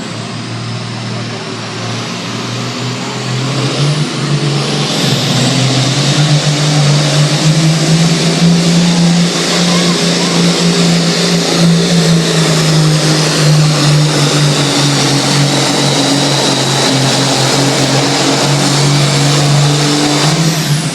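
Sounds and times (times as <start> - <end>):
tractor engine at high revs: 0.0 - 20.9.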